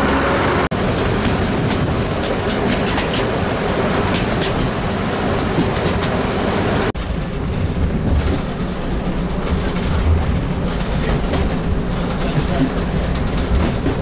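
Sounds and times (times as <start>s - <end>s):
diesel railcar rumble: 0.0s - 14.0s
train rolling noise with wind: 0.0s - 14.0s.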